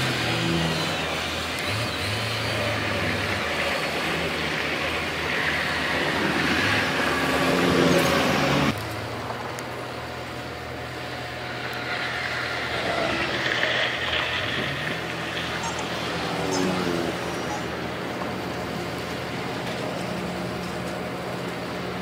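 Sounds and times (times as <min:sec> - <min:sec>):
heavy diesel machines running: 0:00.0 - 0:22.0.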